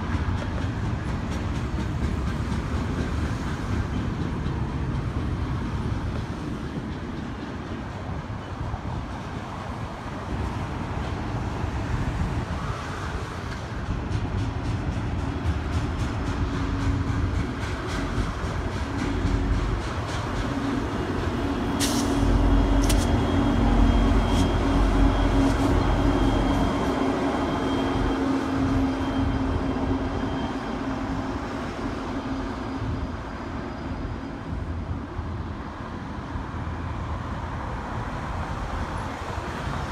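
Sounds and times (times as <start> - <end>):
diesel locomotive drone: 0.0 - 39.9
freight train cars rumbling: 0.0 - 39.9
road traffic noise: 0.0 - 39.9.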